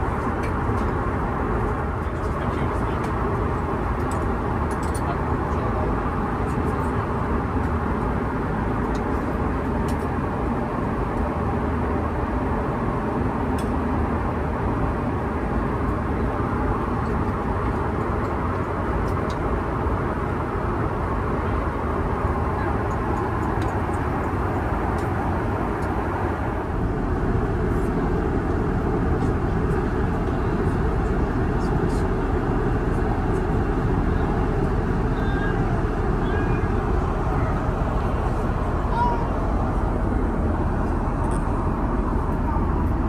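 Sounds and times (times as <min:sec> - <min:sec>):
airliner cabin roar: 0:00.0 - 0:43.0.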